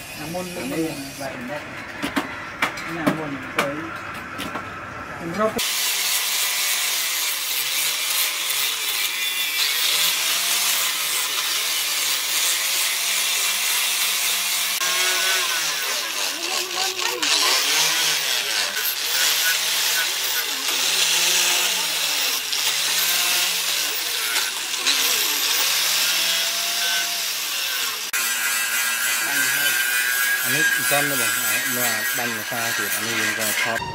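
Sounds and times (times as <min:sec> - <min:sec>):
angle grinder motor whine: 0:04.8 - 0:33.9.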